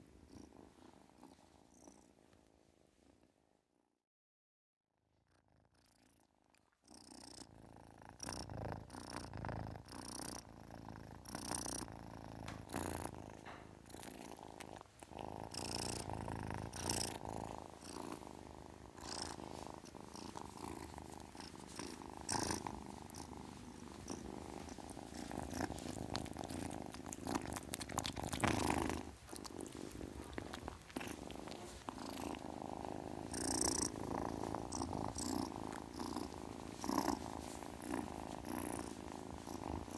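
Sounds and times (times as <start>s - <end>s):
kitten purring: 0.0s - 3.6s, 5.1s - 39.9s.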